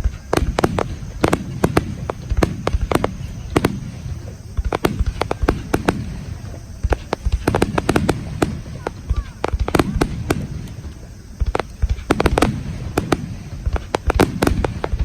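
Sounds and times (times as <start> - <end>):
continuous low rumble: 0.0 - 15.0
fireworks cracks and bangs: 0.0 - 15.0.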